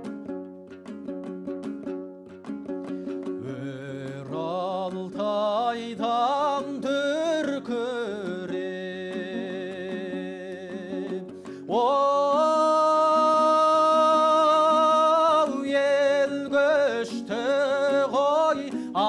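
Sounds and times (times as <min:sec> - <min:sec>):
folk song: 0:00.0 - 0:19.0.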